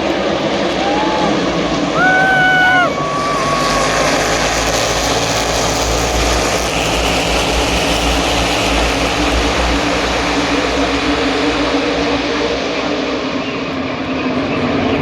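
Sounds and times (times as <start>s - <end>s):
engines roaring: 0.0s - 15.0s.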